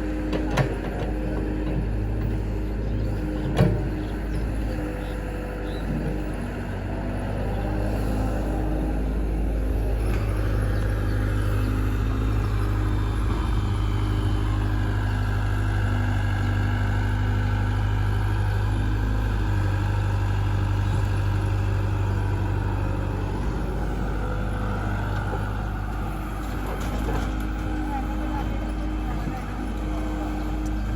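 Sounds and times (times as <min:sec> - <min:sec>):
heavy diesel engine droning: 0:00.0 - 0:30.9.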